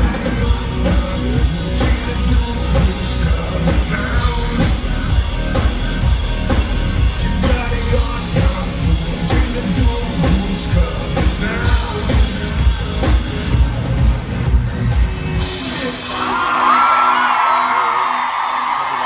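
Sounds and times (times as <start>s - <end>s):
drums: 0.0s - 19.0s
live pop-rock band: 0.0s - 19.0s
singer on stage: 0.0s - 19.0s.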